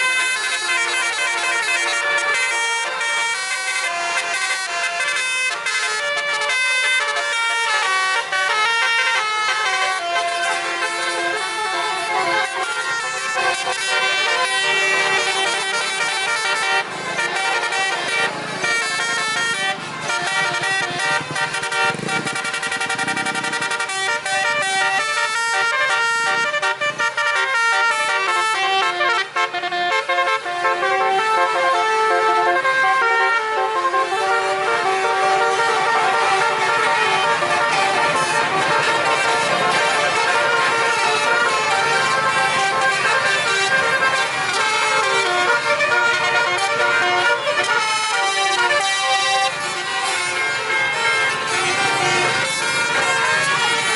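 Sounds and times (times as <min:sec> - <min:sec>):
musical air horns playing a tune: 0:00.0 - 0:53.9.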